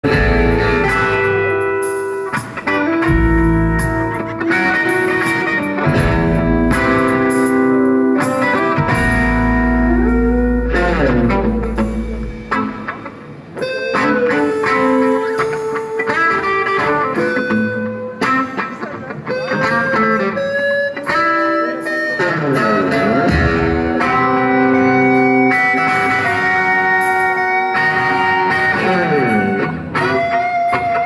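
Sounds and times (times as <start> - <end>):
electric guitar solo: 0.0 - 31.0.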